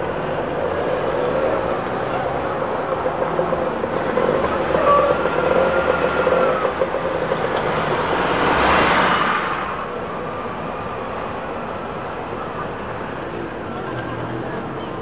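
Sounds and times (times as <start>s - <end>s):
city traffic: 0.0s - 15.0s
trolleybus passing by: 0.0s - 15.0s.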